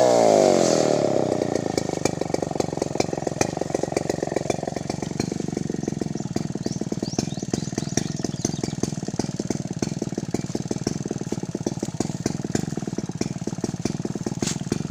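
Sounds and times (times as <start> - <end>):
chainsaw idling: 0.0 - 14.9.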